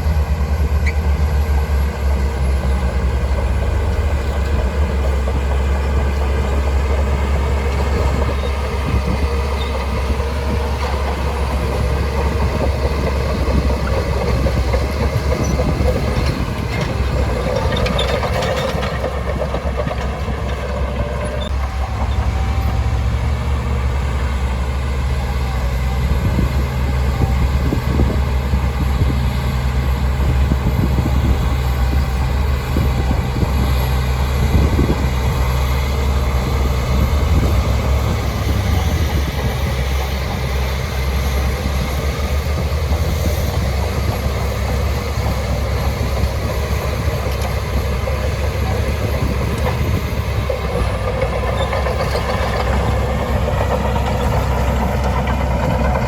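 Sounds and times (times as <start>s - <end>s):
bulldozer diesel drone: 0.0s - 56.0s
machinery clatter: 2.4s - 22.3s, 30.2s - 56.0s.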